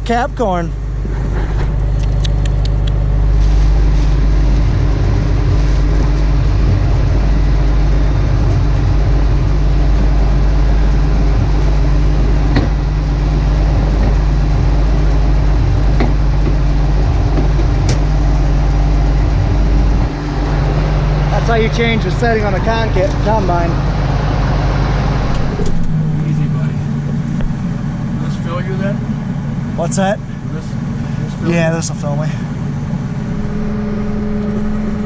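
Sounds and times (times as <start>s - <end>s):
diesel engine hum: 0.0s - 35.0s
broad rushing noise: 0.9s - 35.0s.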